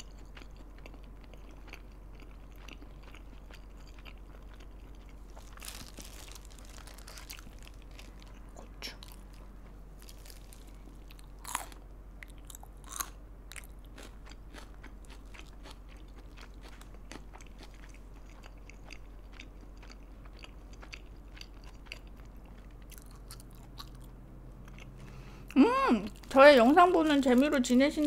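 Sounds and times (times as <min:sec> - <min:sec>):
chewing chili pepper crunches: 0:00.0 - 0:09.4, 0:10.0 - 0:25.0.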